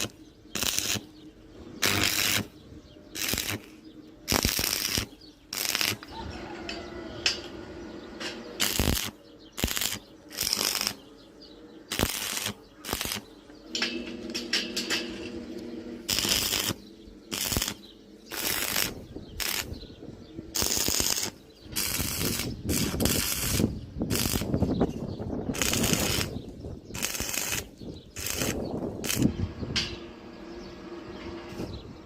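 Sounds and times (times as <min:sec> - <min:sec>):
harsh crackling metalworking bursts: 0:00.0 - 0:32.0.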